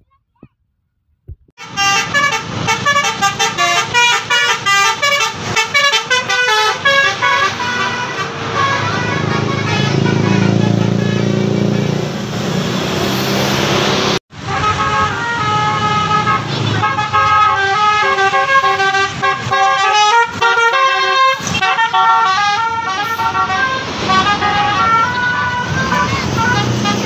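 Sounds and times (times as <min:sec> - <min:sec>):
road noise: 0:01.3 - 0:27.0
bus musical horn melody: 0:01.6 - 0:11.9, 0:14.3 - 0:27.0
bus engine running: 0:01.6 - 0:27.0.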